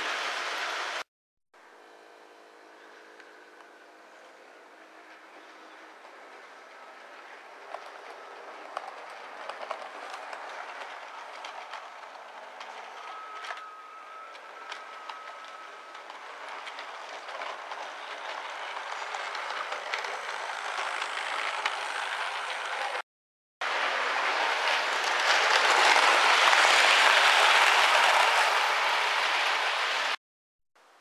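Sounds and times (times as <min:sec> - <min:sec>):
model train whirring on track: 0:01.6 - 0:23.0, 0:23.6 - 0:30.2.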